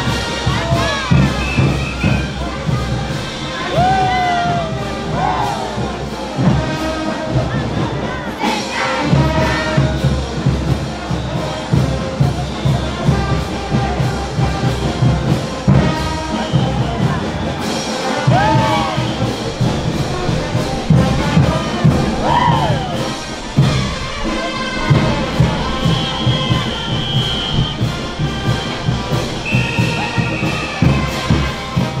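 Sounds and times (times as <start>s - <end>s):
bass drum beat: 0.0s - 8.2s, 9.2s - 32.0s
brass band playing: 0.0s - 32.0s
crowd noise: 0.0s - 32.0s.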